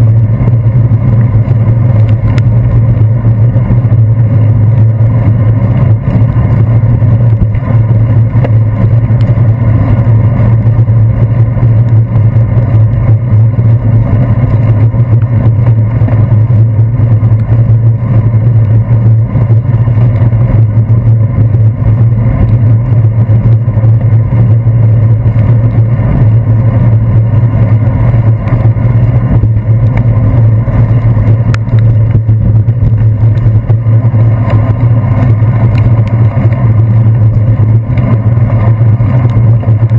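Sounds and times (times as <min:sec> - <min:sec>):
bicycle rolling on wet road: 0:00.0 - 0:39.9.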